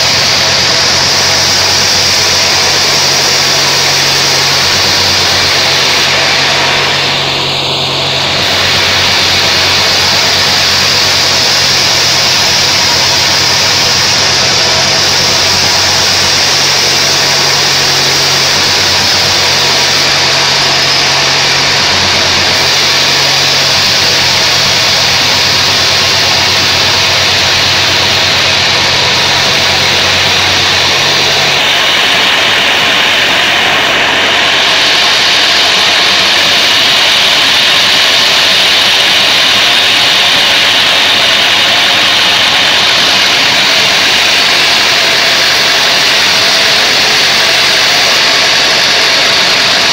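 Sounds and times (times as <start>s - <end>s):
band saw blade cutting wood: 0.0s - 49.9s
low machine hum: 0.0s - 49.9s.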